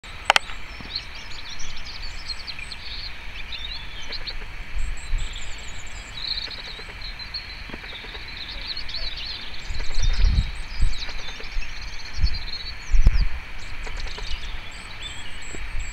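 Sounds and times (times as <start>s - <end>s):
robin singing: 0.0s - 15.9s.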